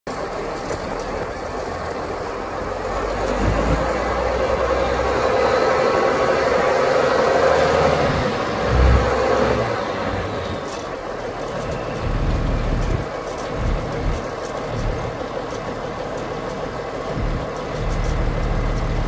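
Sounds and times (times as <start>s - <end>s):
diesel engine running: 0.1s - 19.0s
low rumbles: 0.1s - 19.0s.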